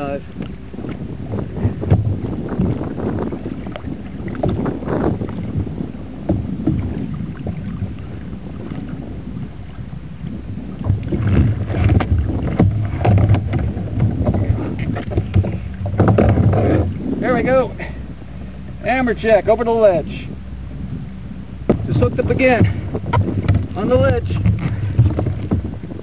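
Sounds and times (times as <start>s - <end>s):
water lapping against hull: 0.0s - 26.0s
wind on microphone: 0.0s - 26.0s.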